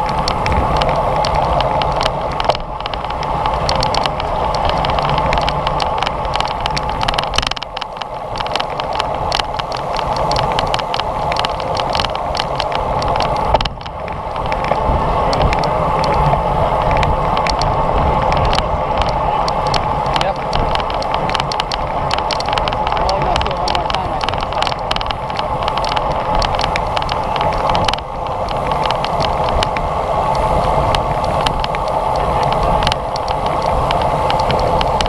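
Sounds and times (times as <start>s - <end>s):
road rumble: 0.0s - 35.0s
small clicks and knocks: 0.0s - 35.0s
wind rushing over microphone: 0.0s - 35.0s.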